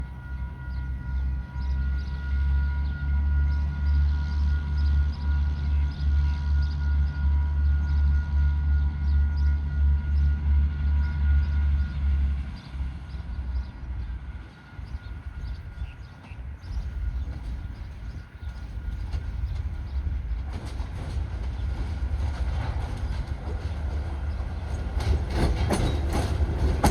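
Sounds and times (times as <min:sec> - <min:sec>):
locomotive engine rumble: 0:00.0 - 0:26.9.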